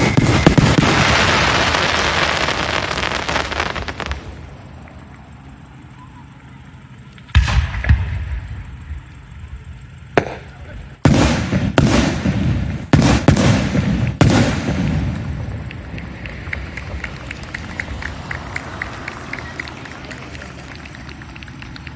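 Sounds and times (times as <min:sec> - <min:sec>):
fireworks booming: 0:00.0 - 0:05.9, 0:06.8 - 0:21.9.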